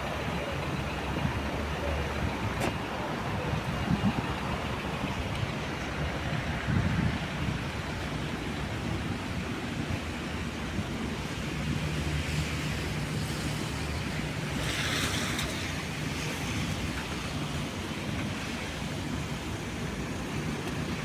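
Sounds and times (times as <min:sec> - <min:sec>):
tyres hissing on wet pavement: 0:00.0 - 0:21.0
vehicle engine running: 0:00.0 - 0:21.0
wet hiss of rain traffic: 0:00.0 - 0:21.0.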